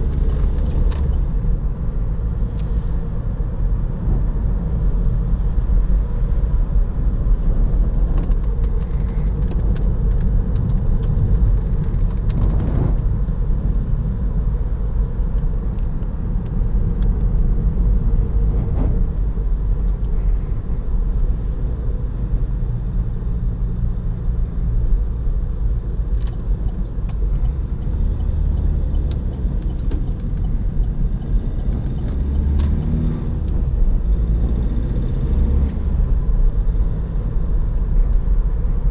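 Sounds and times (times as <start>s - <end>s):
engine and road noise in car: 0.0s - 38.9s.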